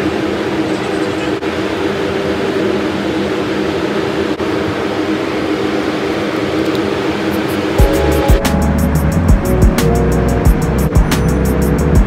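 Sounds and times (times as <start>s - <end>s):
ventilation fan whooshing: 0.0s - 12.0s.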